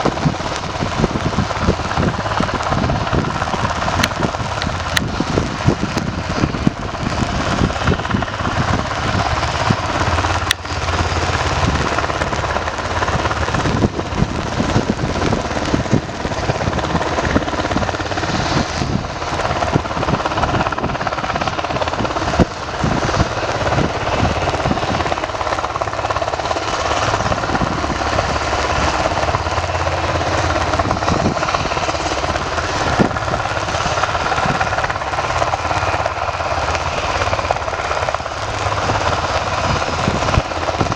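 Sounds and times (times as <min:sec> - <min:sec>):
helicopter turbine and rotor chop: 0:00.0 - 0:40.9.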